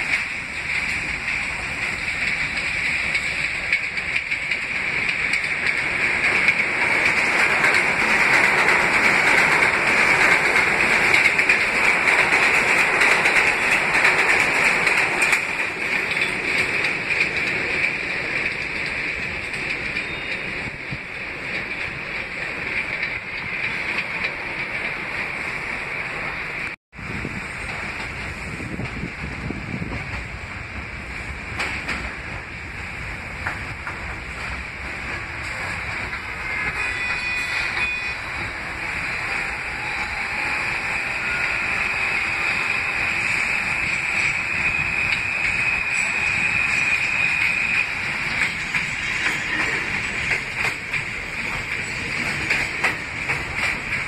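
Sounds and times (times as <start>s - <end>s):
subway train passing: 0.0s - 54.0s.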